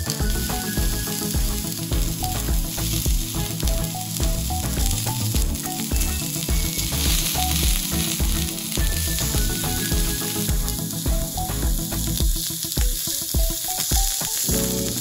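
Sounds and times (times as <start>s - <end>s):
steak sizzling on griddle: 0.0s - 15.0s.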